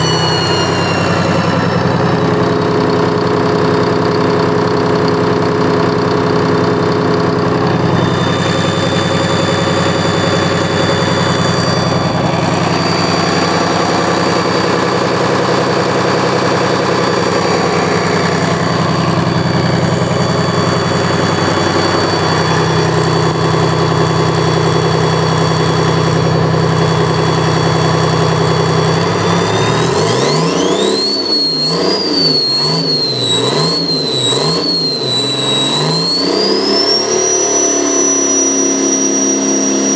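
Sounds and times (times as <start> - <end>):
diesel engine idling and revving: 0.0 - 39.9
high turbo whine: 0.0 - 39.9.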